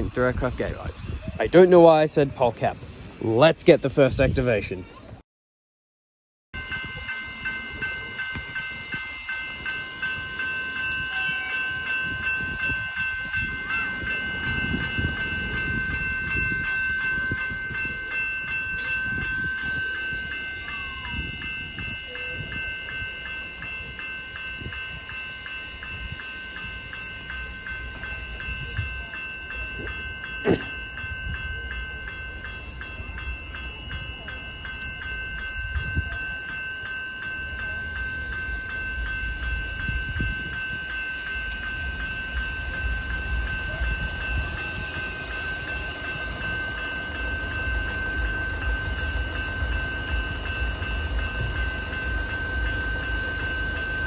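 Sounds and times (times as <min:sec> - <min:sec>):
level crossing bell ringing: 0:06.6 - 0:54.0
train rumbling: 0:06.6 - 0:54.0.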